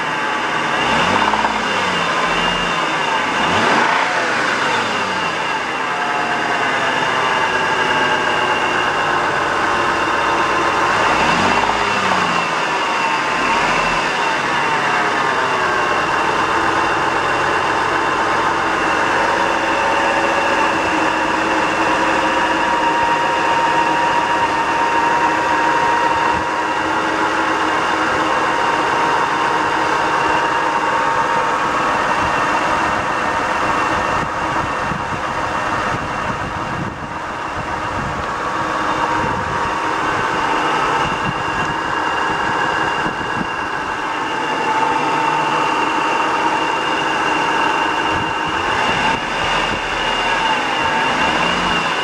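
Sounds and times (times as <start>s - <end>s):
car engine knocking: 0.0s - 52.0s.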